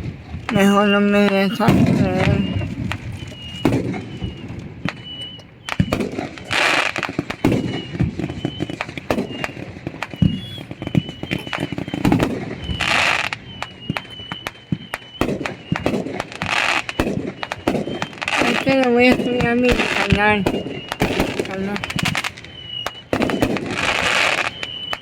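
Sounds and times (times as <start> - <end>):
firecrackers banging and popping: 0.0 - 25.0
fireworks hissing: 0.0 - 25.0.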